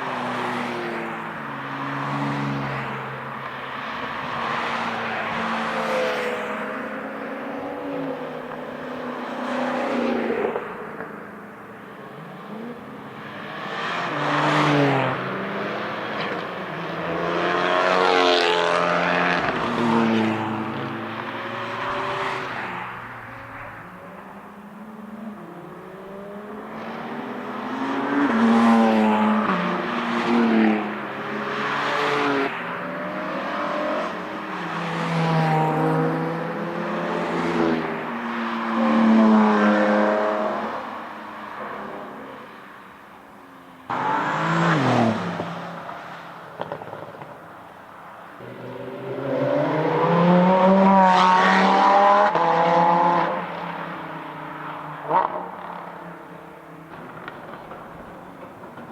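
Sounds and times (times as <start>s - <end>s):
racing cars passing: 0.0s - 58.9s.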